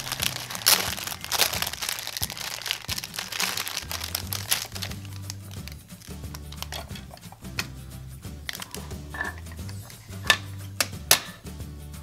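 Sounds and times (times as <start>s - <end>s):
plastic film crinkling: 0.0s - 7.7s, 8.4s - 11.3s.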